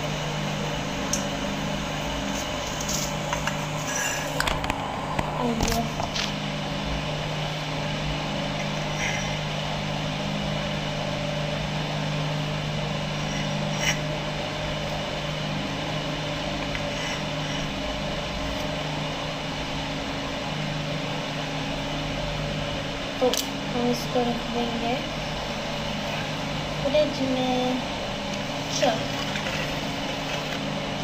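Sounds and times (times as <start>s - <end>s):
appliance humming: 0.0s - 31.0s.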